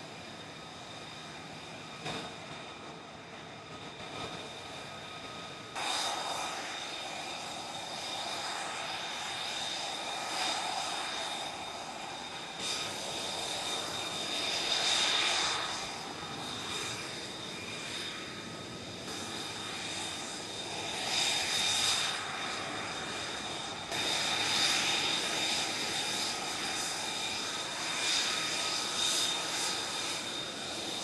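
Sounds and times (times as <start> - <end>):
aircraft turbine engine whining: 0.0 - 31.0.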